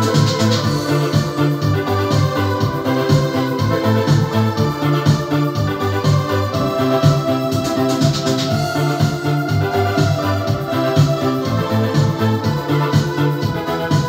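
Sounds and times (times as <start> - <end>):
keyboard playing chords and melody: 0.0 - 14.0.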